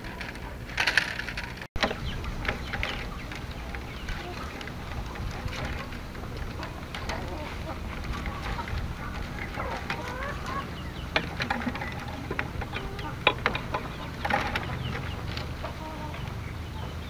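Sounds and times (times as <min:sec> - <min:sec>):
bamboo strips clicking and rustling: 0:00.0 - 0:16.4
chickens clucking: 0:00.0 - 0:17.0.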